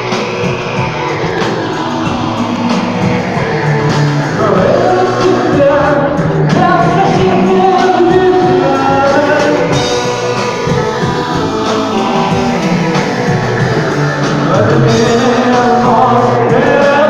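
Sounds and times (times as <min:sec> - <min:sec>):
live band with guitars: 0:00.0 - 0:17.0
person singing: 0:00.0 - 0:17.0.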